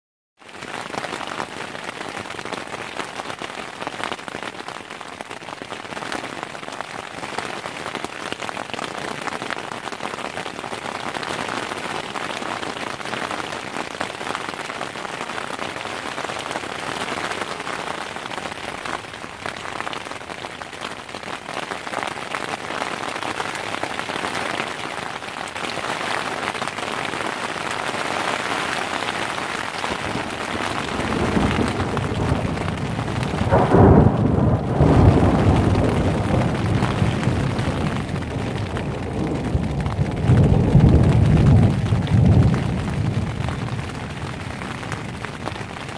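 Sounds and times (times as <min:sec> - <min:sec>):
steady rain falling: 0:00.4 - 0:45.9.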